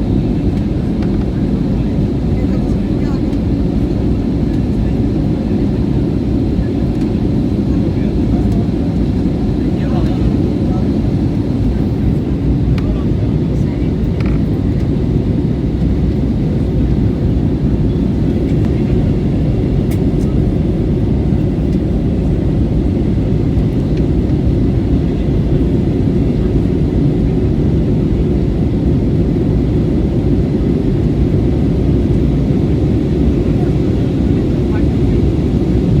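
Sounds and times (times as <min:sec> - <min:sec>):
jet engine rumble in cabin: 0:00.0 - 0:36.0.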